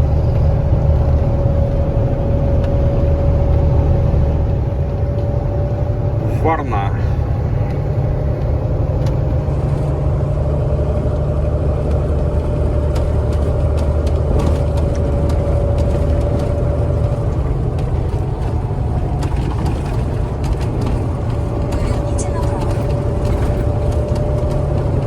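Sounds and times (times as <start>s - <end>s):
road noise inside cab: 0.0s - 25.0s
truck diesel engine droning: 0.0s - 25.0s.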